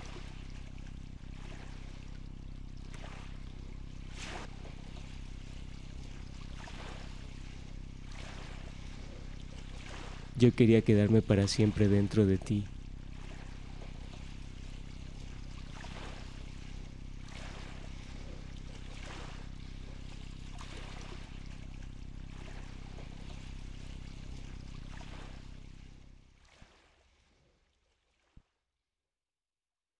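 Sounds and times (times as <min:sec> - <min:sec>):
low steady rumble: 0:00.0 - 0:26.6
small waves lapping and splashing: 0:00.0 - 0:28.4.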